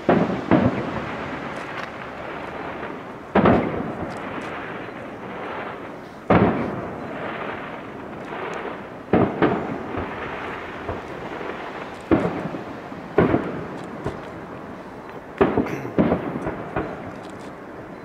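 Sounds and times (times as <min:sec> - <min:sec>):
firework shells bursting: 0:00.0 - 0:17.8
rolling echo: 0:00.0 - 0:18.0.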